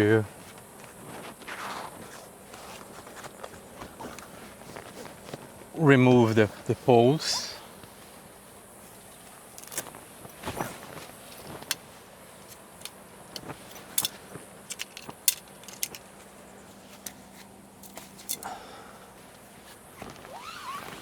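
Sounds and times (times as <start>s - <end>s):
tent poles clicking and clinking: 0.0s - 8.3s, 9.2s - 21.0s.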